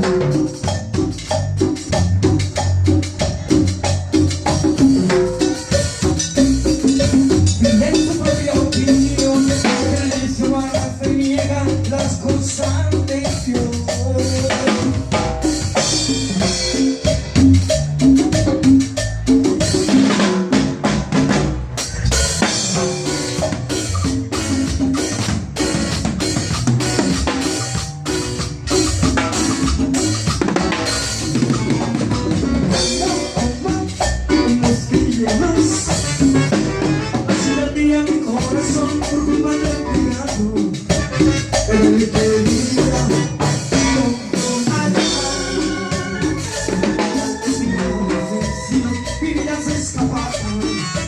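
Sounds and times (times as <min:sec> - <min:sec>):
latin band music: 0:00.0 - 0:51.0.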